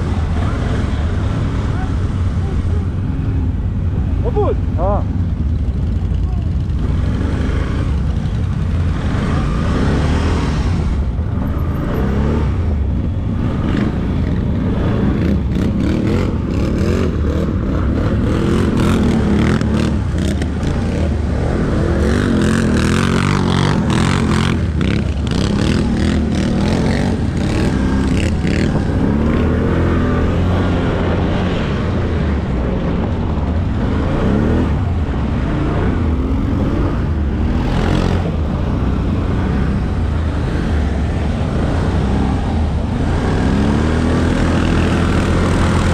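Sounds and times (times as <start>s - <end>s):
atv engine revving: 0.0s - 45.9s.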